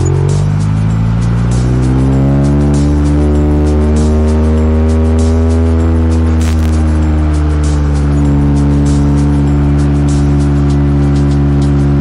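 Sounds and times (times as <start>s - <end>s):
background music: 0.0s - 12.0s
car engine from inside cabin: 0.0s - 12.0s.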